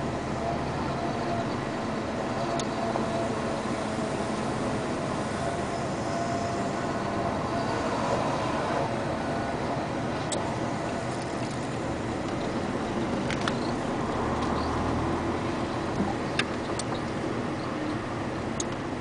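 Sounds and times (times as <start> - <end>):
faint steady whine: 0.0 - 19.0
machinery rumble: 0.0 - 19.0.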